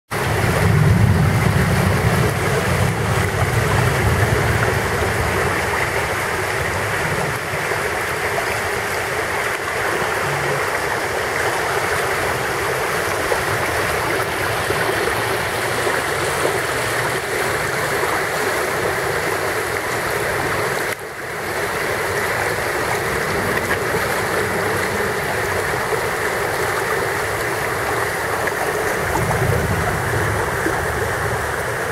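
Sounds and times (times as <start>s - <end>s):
floodwater rushing: 0.1s - 31.9s.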